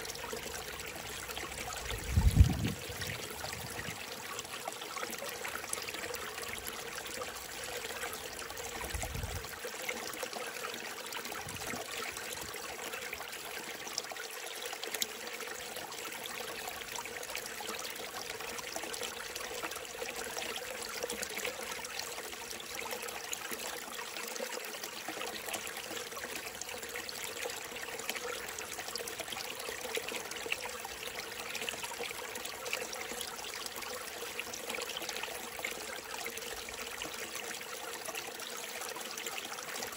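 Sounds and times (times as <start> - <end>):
stream burbling over rocks: 0.0 - 39.9.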